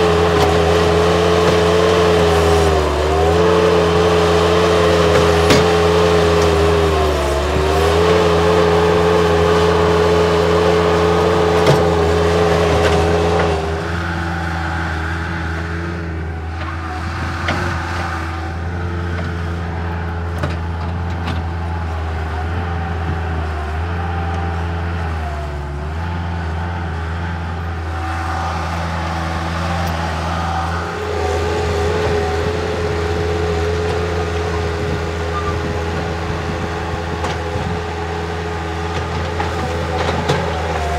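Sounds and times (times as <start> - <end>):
loader engine under load: 0.0 - 40.9.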